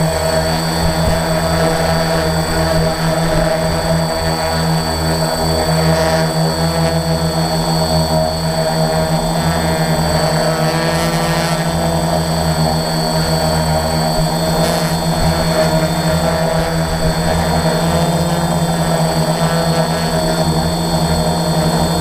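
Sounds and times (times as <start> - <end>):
drone motors humming: 0.0 - 22.0
high steady whine: 0.0 - 22.0.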